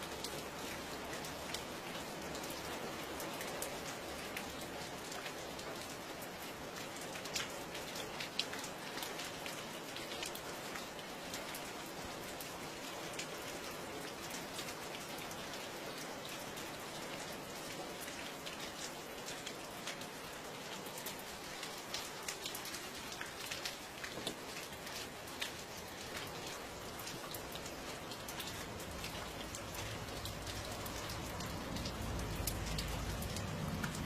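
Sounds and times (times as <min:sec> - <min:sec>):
rain drops ticking on hard surface: 0:00.0 - 0:34.0
rain hiss: 0:00.0 - 0:34.0.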